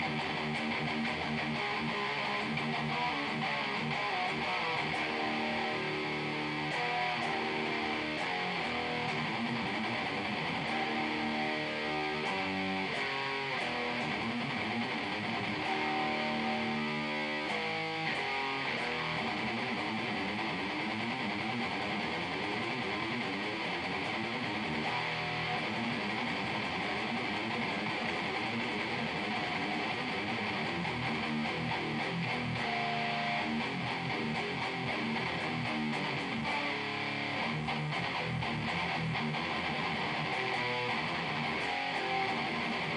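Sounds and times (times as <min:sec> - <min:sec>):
distorted electric guitar riffing: 0:00.0 - 0:42.9.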